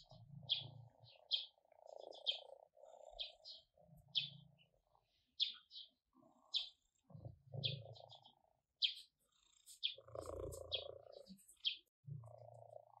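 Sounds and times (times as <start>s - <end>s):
cat purring: 0.0s - 5.4s, 6.3s - 13.0s
small bird chirping: 0.0s - 13.0s.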